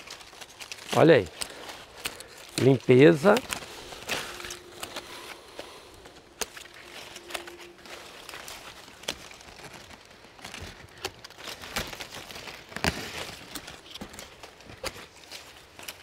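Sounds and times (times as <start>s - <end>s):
rustling leaves and twigs: 0.0s - 16.0s.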